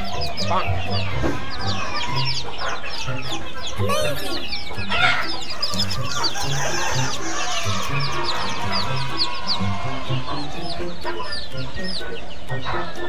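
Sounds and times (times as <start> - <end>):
background music with bass: 0.0 - 13.0
chicks peeping: 0.0 - 13.0.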